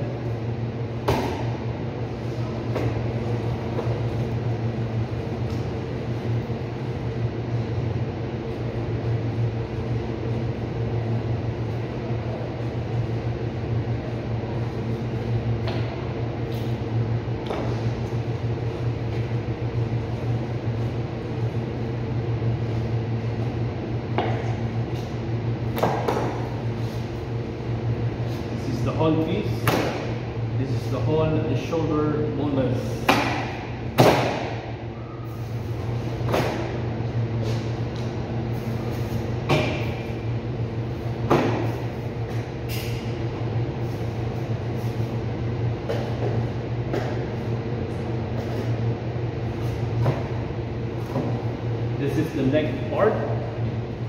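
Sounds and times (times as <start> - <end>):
cooling unit humming: 0.0 - 54.0.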